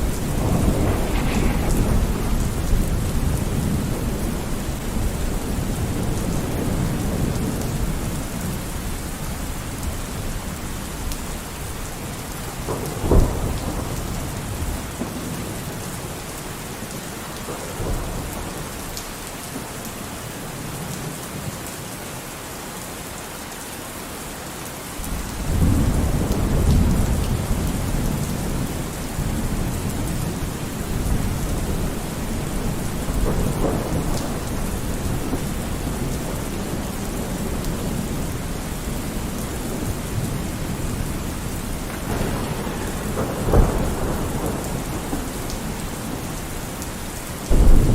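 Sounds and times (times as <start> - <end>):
thunder rumbling: 0.0 - 18.7, 25.0 - 47.9
steady rain falling: 0.0 - 47.9.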